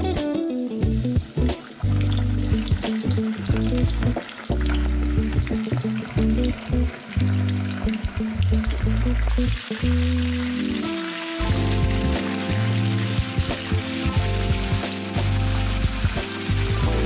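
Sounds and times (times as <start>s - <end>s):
background music with low notes: 0.0s - 17.0s
chicken deep-frying in oil: 0.0s - 17.0s.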